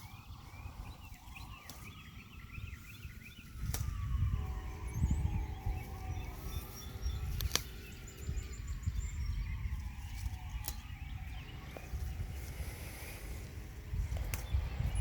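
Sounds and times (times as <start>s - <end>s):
emergency siren wailing: 0.0s - 15.0s
small birds chirping: 0.0s - 15.0s.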